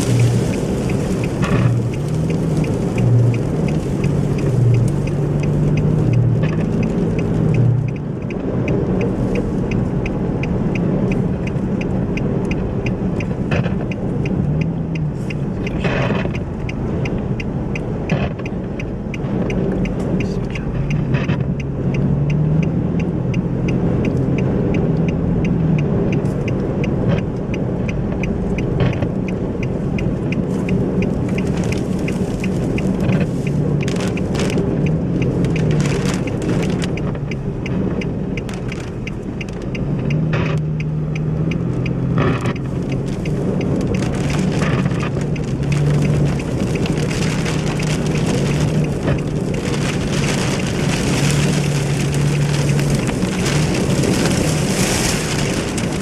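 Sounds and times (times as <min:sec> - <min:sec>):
fast light ticking: 0:00.0 - 0:56.0
vehicle engine hum: 0:00.0 - 0:56.0.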